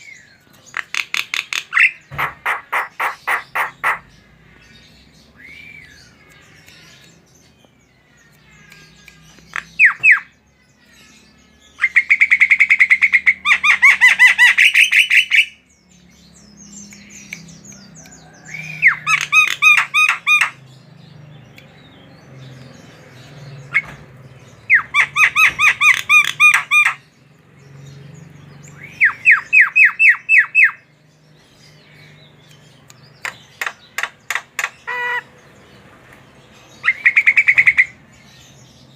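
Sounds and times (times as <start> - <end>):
bird singing rapid repeated notes: 0.0 - 38.9.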